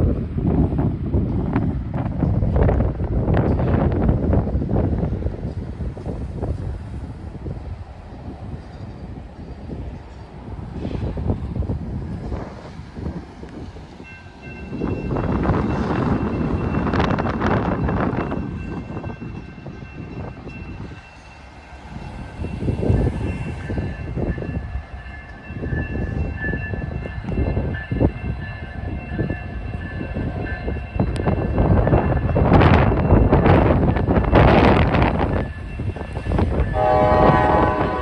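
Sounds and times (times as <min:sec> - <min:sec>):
train wheels rumbling and clattering: 0:00.0 - 0:38.0.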